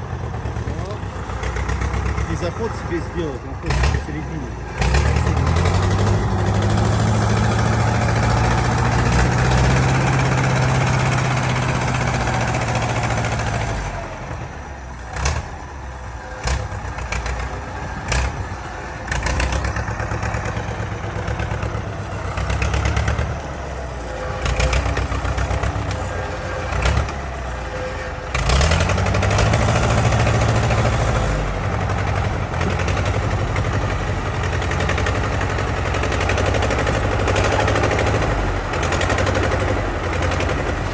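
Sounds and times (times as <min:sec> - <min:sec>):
engine running hard: 0:00.0 - 0:40.9.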